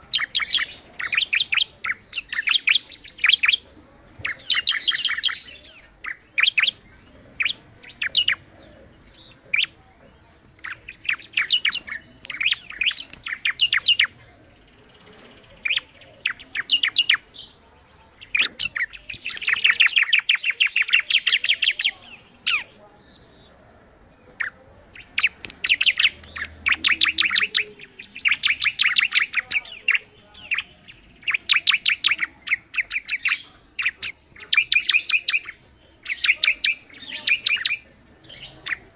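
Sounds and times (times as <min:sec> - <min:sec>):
bird chirping rapidly: 0:00.0 - 0:09.8, 0:10.6 - 0:17.6, 0:18.2 - 0:22.8, 0:24.4 - 0:38.9.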